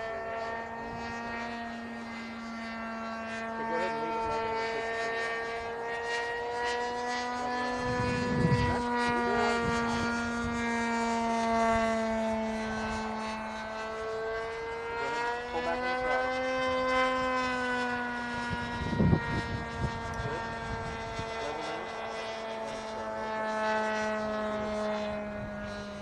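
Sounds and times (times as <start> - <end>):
model plane engine drone: 0.0 - 26.0.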